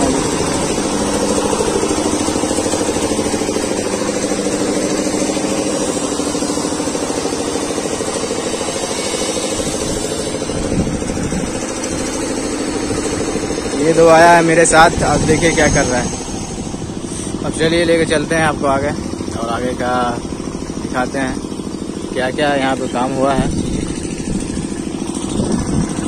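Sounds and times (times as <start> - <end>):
engine-like drone: 0.0 - 26.0.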